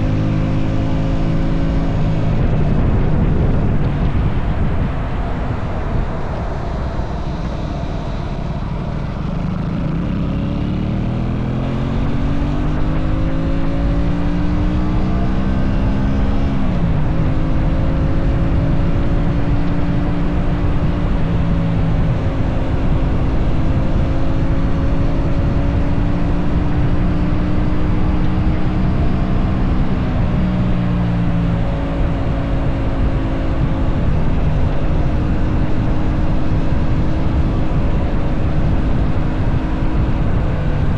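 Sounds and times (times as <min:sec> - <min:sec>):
low wind rush: 0:00.0 - 0:40.9
motorcycle engine revving: 0:00.0 - 0:40.9.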